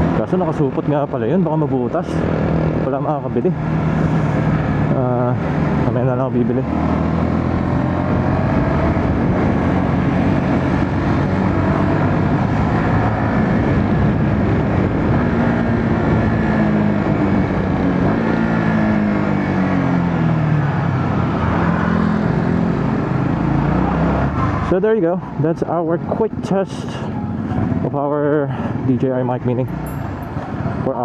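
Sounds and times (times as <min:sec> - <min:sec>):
motorcycle engine hum: 0:00.0 - 0:31.0.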